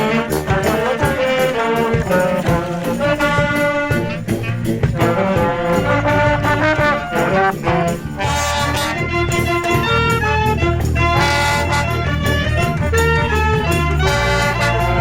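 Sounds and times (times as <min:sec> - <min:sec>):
wind band playing pop: 0:00.0 - 0:15.0.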